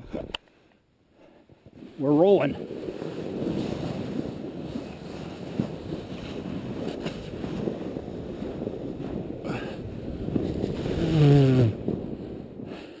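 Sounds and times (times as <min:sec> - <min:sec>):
wind on microphone: 0:01.2 - 0:13.0
sled scraping over snow: 0:01.6 - 0:13.0.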